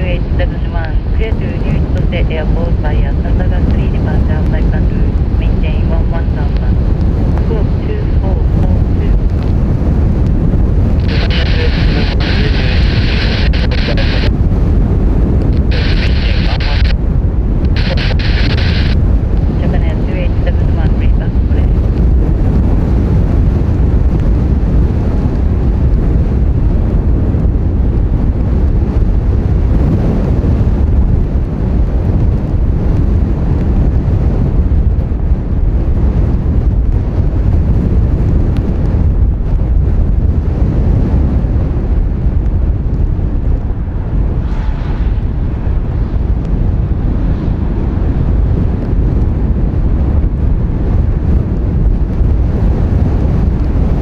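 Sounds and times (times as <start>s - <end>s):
strong wind buffeting microphone: 0.0s - 54.0s.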